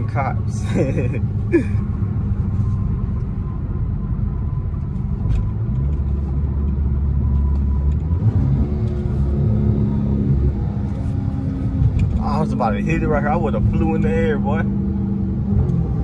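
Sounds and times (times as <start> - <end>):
car exhaust droning: 0.0 - 16.0
deep low rumble: 0.0 - 16.0
road noise: 0.0 - 16.0.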